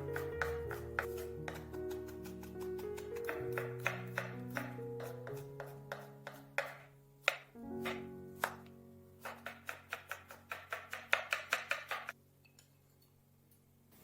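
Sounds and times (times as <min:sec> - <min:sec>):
knife chopping on cutting board: 0:00.0 - 0:08.6, 0:09.2 - 0:12.1
background music: 0:00.0 - 0:11.5.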